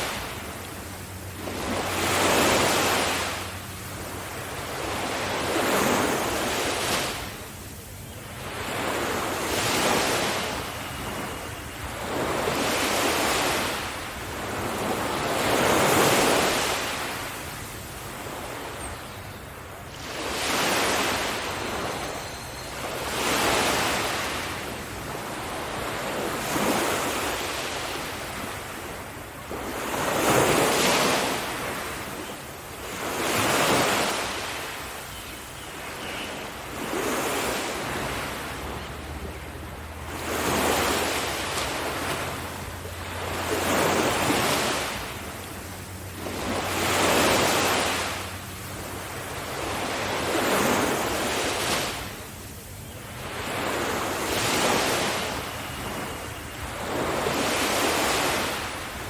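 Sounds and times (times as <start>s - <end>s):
waves breaking on a beach: 0.0s - 59.0s.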